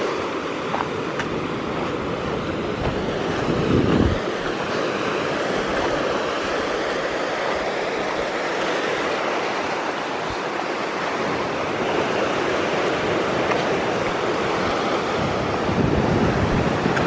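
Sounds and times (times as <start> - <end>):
ocean surf washing over rocks: 0.0 - 17.0.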